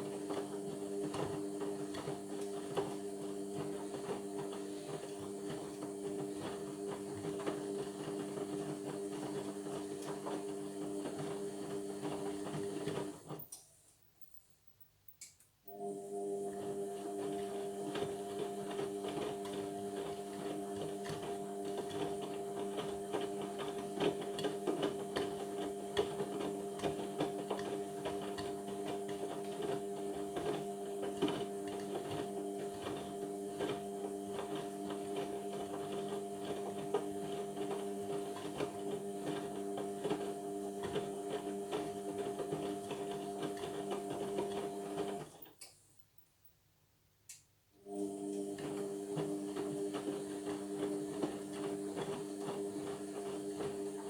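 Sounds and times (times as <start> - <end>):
washing machine motor hum: 0.0 - 13.5, 15.7 - 45.4, 47.8 - 54.0.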